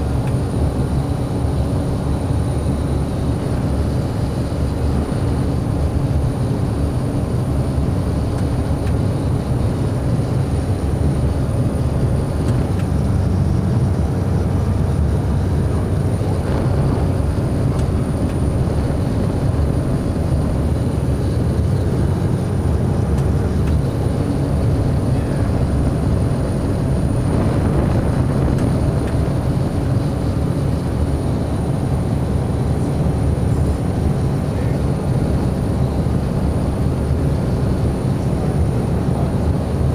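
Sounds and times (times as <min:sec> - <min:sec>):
high engine whine: 0:00.0 - 0:39.9
turboprop engine drone: 0:00.0 - 0:39.9.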